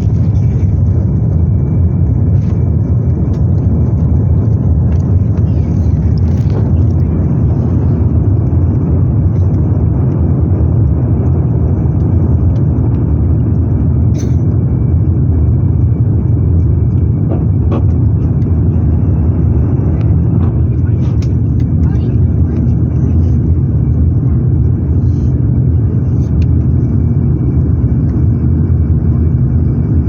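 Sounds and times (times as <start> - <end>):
jet engines rumbling in cabin: 0.0 - 30.0.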